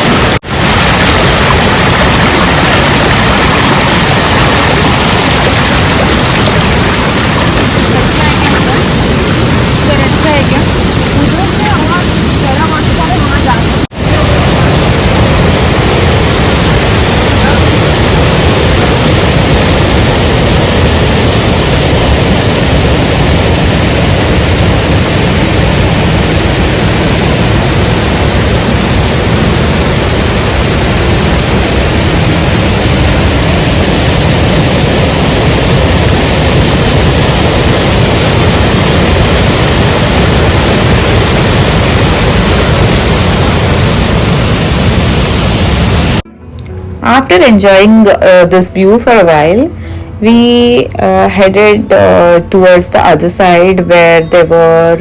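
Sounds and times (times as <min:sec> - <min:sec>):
small waterfall roaring: 0:00.0 - 0:46.2.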